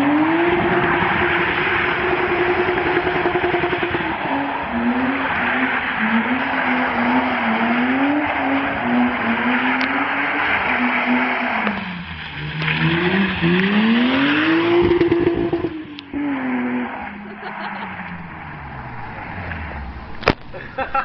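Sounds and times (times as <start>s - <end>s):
car engine revving under load: 0.0s - 20.9s.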